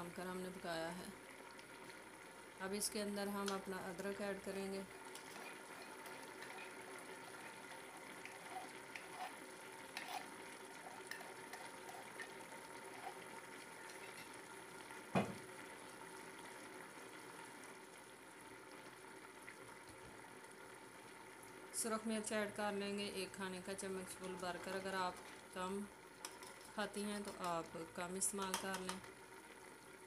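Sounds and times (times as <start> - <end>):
curry bubbling in a pot: 0.0 - 30.0.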